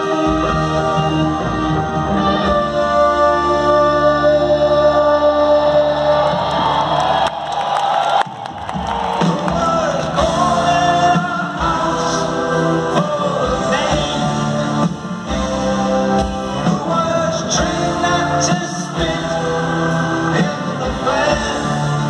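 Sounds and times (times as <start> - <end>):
live rock band with vocals: 0.0 - 7.6, 8.7 - 22.0.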